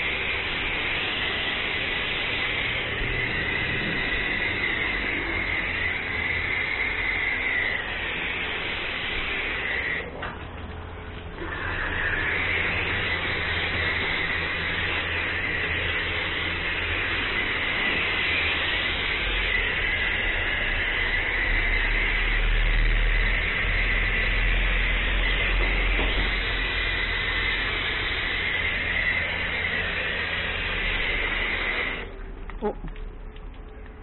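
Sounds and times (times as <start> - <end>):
foam lance spraying: 0.0 - 34.0
low hum: 0.0 - 34.0.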